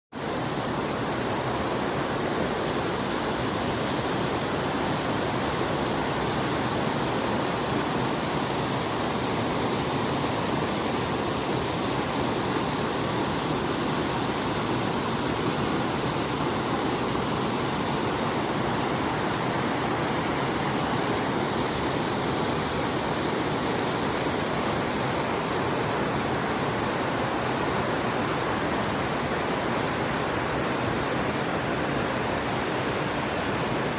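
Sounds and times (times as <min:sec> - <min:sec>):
fast-flowing water rushing: 0:00.2 - 0:33.9.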